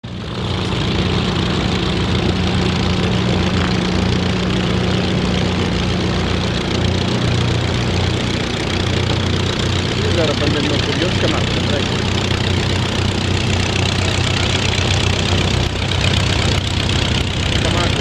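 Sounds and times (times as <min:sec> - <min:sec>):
propeller aircraft engine: 0:00.0 - 0:18.0.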